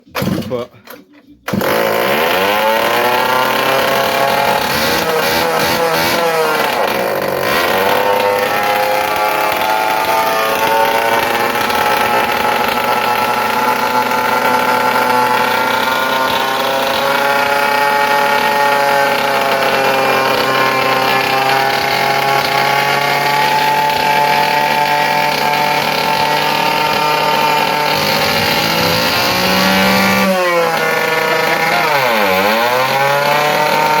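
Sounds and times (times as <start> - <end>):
motor engine running: 1.4 - 34.0.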